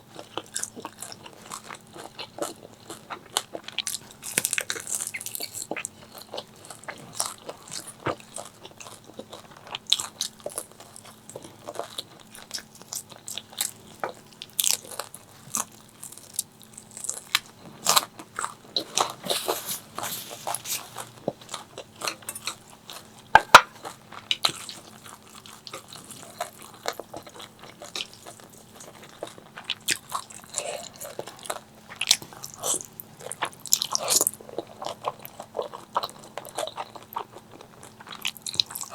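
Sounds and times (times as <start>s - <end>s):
crunchy food being chewed: 0.0s - 38.9s.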